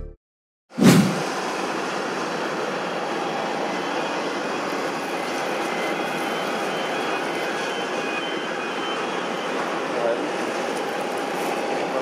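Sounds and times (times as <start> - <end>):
jet taxiing rushing noise: 0.8 - 12.0
faint high whine: 1.1 - 12.0.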